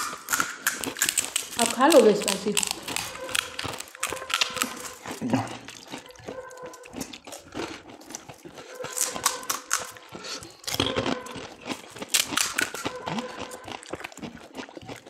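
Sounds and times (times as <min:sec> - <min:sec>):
crisp shells crunching: 0:00.0 - 0:15.0
wet chewing: 0:00.0 - 0:15.0.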